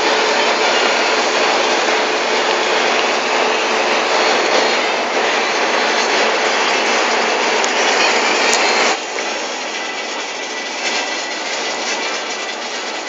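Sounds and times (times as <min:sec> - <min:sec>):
bus cabin road noise: 0:00.0 - 0:12.5.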